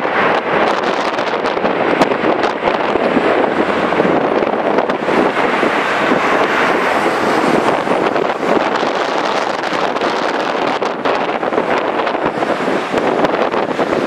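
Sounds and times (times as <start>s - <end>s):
jet engines at takeoff thrust: 0.0s - 14.0s.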